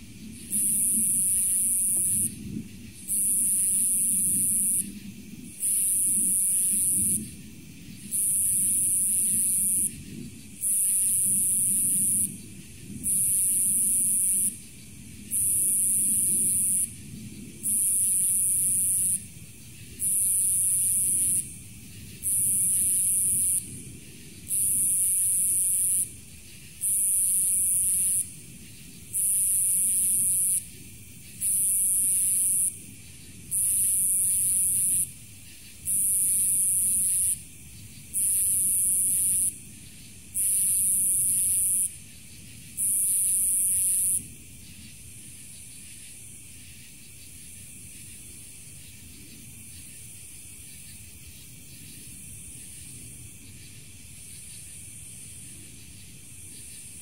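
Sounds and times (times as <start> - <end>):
insect high-pitched buzzing: 0.2 - 57.0.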